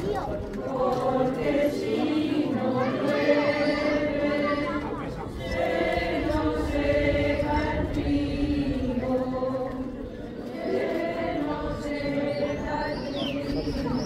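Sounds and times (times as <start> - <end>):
women singing a hymn: 0.3 - 14.0.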